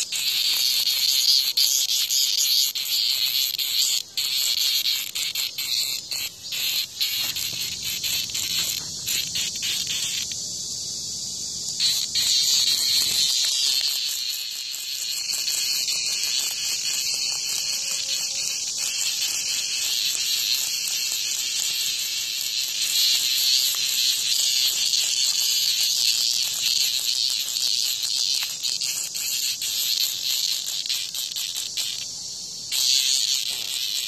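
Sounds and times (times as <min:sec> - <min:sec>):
cicada buzzing: 0:00.0 - 0:34.0.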